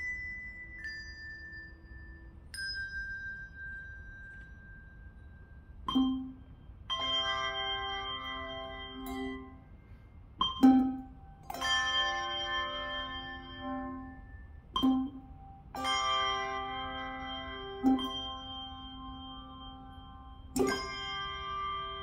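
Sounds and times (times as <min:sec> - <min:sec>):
high handbell ringing: 0:00.0 - 0:09.8, 0:10.4 - 0:22.0
chord of handbells ringing: 0:00.0 - 0:22.0.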